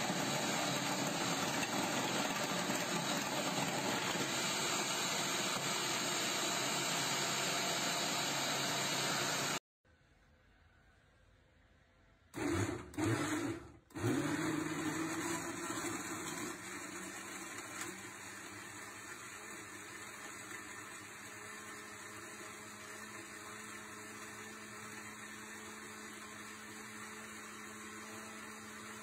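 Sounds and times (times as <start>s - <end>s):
blender humming: 0.0s - 9.6s, 12.4s - 29.0s.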